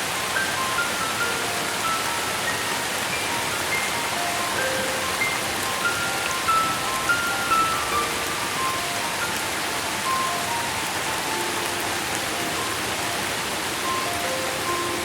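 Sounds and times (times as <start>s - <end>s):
rain falling: 0.0s - 15.0s
soft melodic notes: 0.0s - 15.0s.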